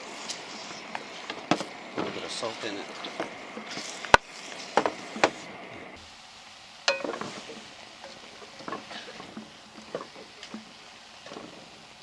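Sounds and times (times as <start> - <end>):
utensil scraping in frying pan: 0.0 - 6.0, 6.6 - 12.0
food sizzling: 0.0 - 12.0.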